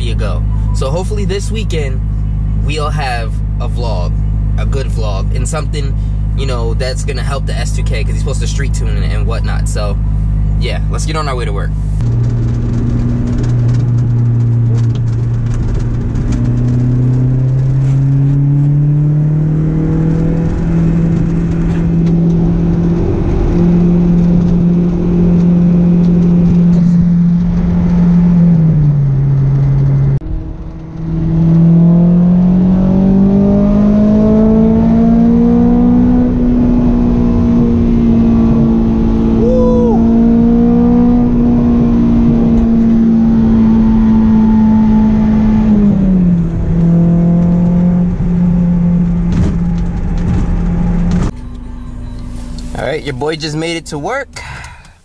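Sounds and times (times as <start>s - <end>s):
car engine accelerating: 0.0s - 54.9s
road noise: 0.0s - 55.0s.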